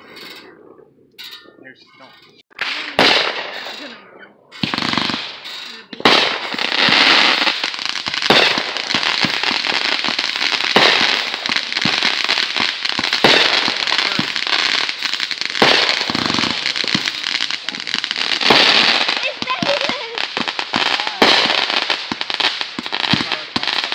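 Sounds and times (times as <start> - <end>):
fireworks crackling: 2.0 - 23.9
fireworks launches and bursts: 2.5 - 23.9
loud fireworks bangs: 2.5 - 23.9.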